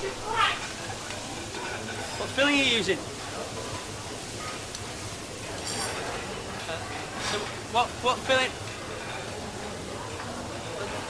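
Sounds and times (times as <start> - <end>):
kitchen background hiss: 0.0 - 11.0.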